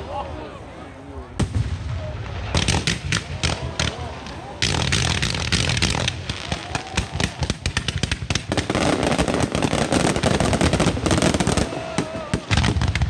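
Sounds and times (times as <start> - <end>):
rapid firecracker bangs: 1.4 - 13.0.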